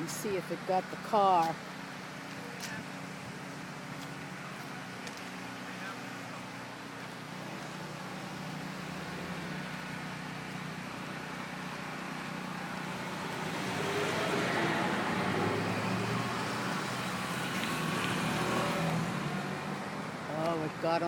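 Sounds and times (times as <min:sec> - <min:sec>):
vehicle engine humming: 0:00.0 - 0:21.0
passing vehicle road noise: 0:01.4 - 0:21.0.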